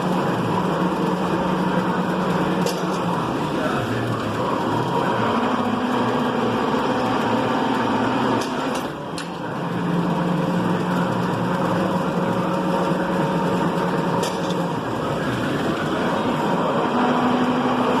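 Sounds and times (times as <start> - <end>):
machine tool motor hum: 0.0 - 18.0.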